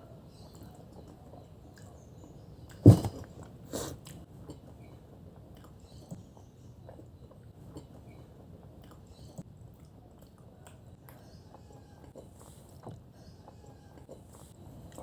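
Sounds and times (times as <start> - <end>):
quiet chewing: 0.3 - 15.0.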